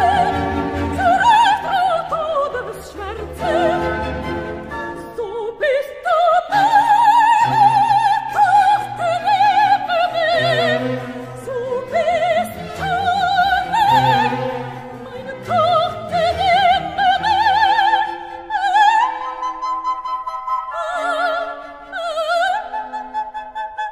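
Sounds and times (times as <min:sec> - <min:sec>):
orchestral accompaniment: 0:00.0 - 0:23.8
operatic singing: 0:00.0 - 0:23.9.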